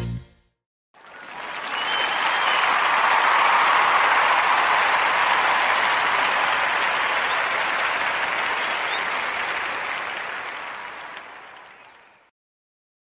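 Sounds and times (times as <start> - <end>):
crowd applause: 1.0 - 12.3.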